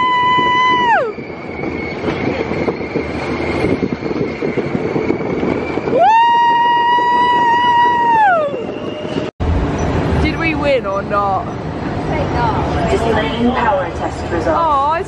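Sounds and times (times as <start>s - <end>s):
ride car rushing wind and track: 0.0s - 15.0s.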